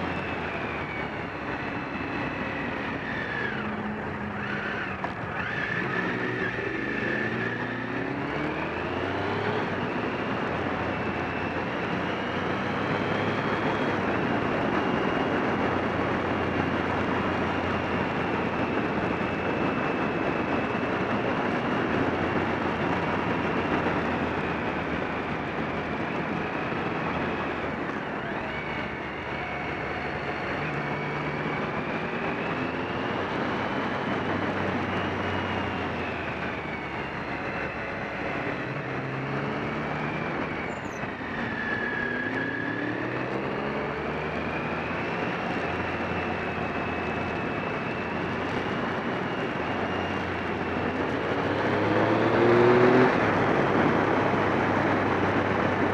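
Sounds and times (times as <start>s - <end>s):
motorcycle engine accelerating: 0.0s - 55.9s
wind rush on microphone: 0.0s - 55.9s.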